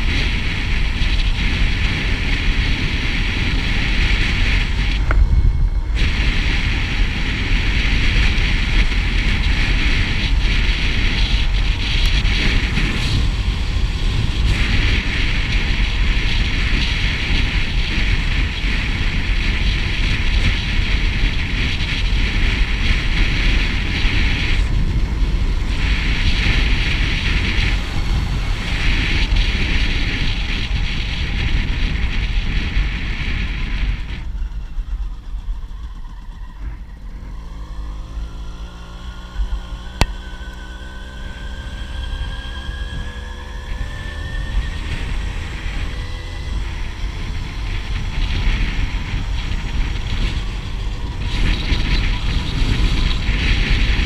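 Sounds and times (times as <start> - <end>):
motorcycle engine rumble: 0.0 - 54.0
wind rushing over camera: 0.0 - 54.0.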